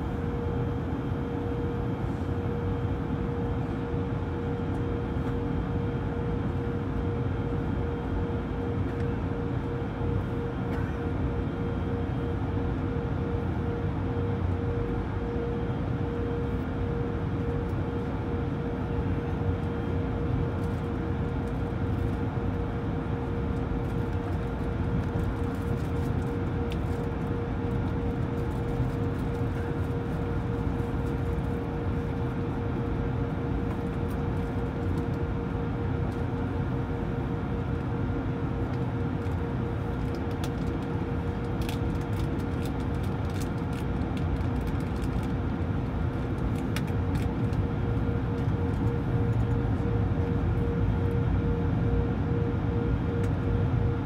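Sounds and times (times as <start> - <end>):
jet engine hum: 0.0 - 54.0
mid-pitched whine: 0.0 - 54.0.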